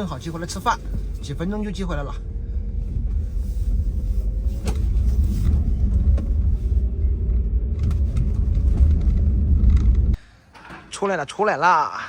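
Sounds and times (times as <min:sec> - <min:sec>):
vehicle driving low rumble: 0:00.0 - 0:10.2.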